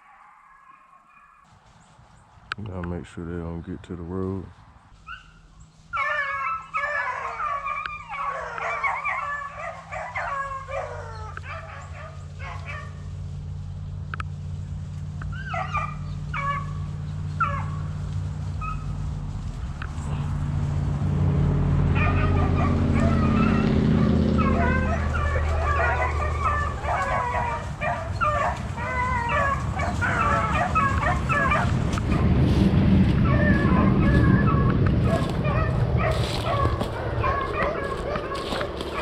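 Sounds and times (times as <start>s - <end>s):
dogs baying and barking: 0.0s - 1.5s, 5.0s - 13.3s, 14.0s - 39.0s
low engine drone: 2.5s - 39.0s.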